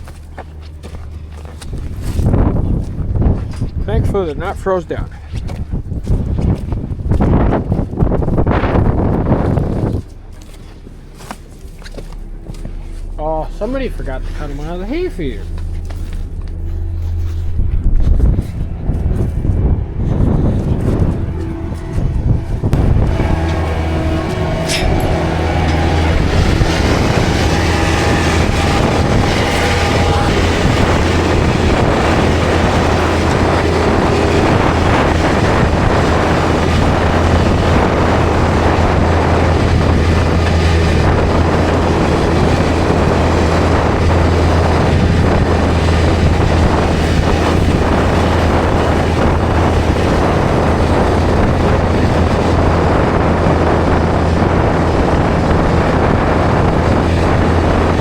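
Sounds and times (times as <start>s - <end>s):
loader engine running: 0.0s - 58.0s
wind noise on microphone: 0.0s - 58.0s.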